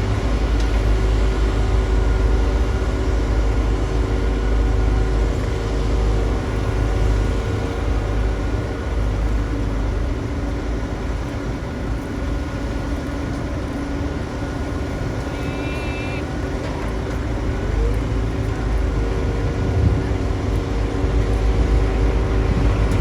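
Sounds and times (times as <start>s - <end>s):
heavy machine engine rumbling: 0.0s - 23.0s.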